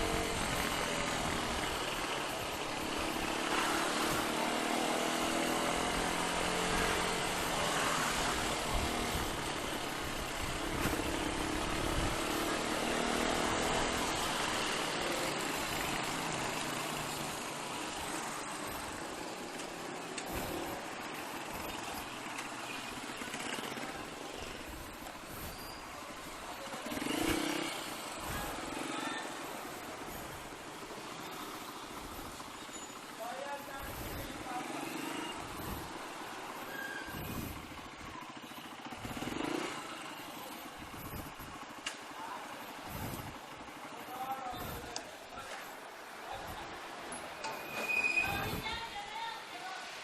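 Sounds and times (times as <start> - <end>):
motorcycle engine: 0.0 - 48.8
wind and road noise: 0.0 - 50.0.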